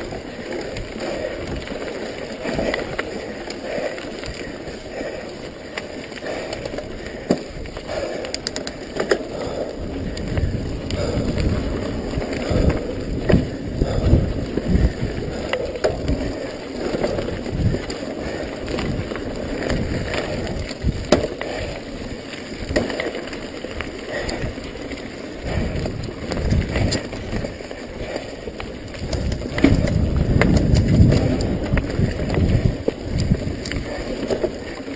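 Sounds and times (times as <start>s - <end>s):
bike rattling over bumps: 0.0s - 34.9s
tyres rumbling on dirt: 0.0s - 34.9s.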